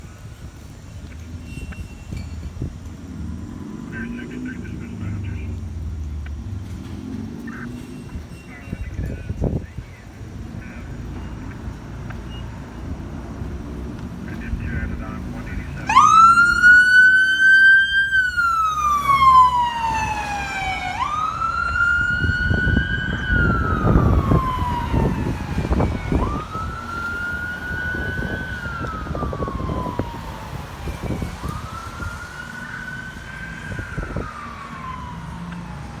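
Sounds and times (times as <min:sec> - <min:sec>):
passing vehicle rumble: 0:00.0 - 0:36.0
fire siren wailing: 0:00.3 - 0:06.0, 0:10.3 - 0:36.0.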